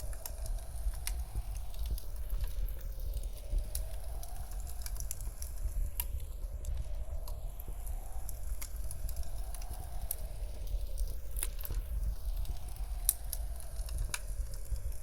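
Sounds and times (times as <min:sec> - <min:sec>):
wind howling softly: 0:00.0 - 0:15.0
wood fire crackling: 0:00.0 - 0:15.0.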